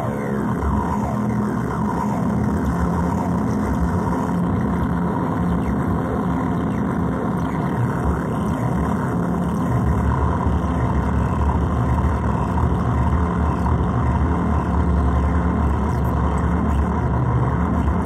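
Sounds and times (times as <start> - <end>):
electronic noise drone: 0.0 - 18.0.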